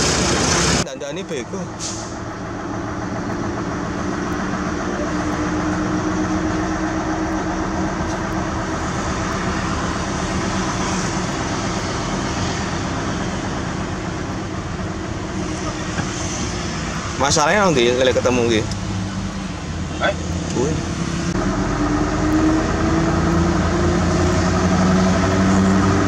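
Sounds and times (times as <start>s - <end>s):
heavy diesel engine drone: 0.0s - 26.0s.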